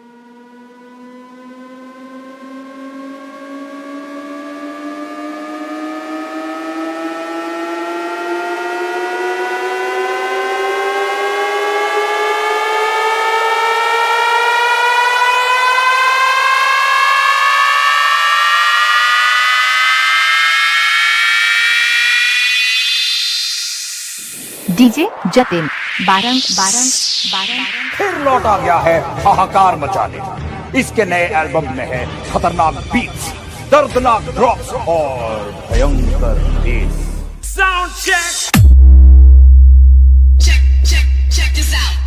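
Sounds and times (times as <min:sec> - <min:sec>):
synthesized rising tones: 0:00.0 - 0:37.5.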